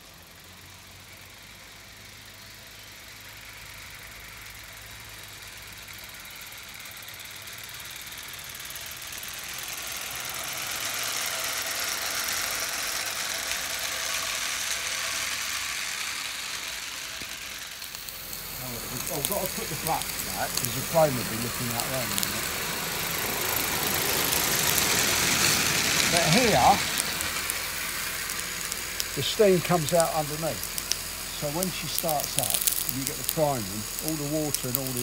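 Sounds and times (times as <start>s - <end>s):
steam locomotive running: 0.0s - 35.0s.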